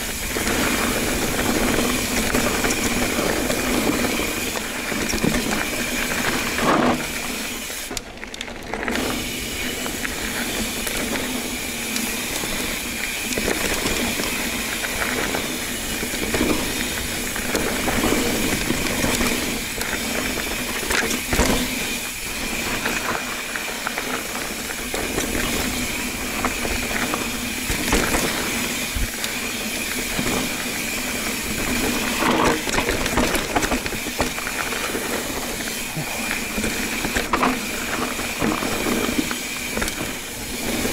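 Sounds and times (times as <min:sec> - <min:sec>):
bike knocking and rattling: 0:00.0 - 0:40.9.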